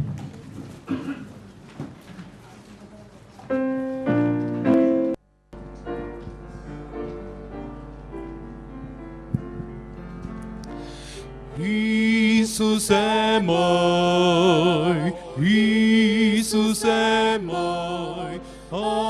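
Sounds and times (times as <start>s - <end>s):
keyboard playing sustained chords: 3.7s - 19.0s.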